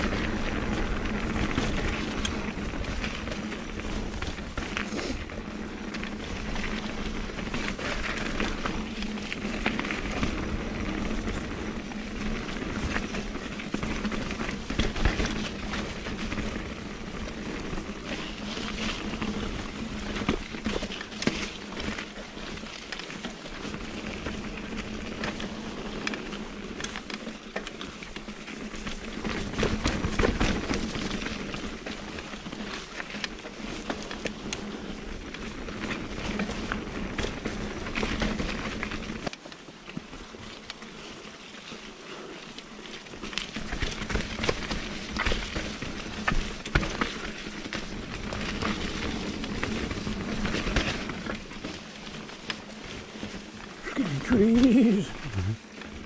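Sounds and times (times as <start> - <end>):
bike rattling and knocking: 0.0 - 41.1, 42.8 - 53.8
bike tyre noise: 0.0 - 56.0.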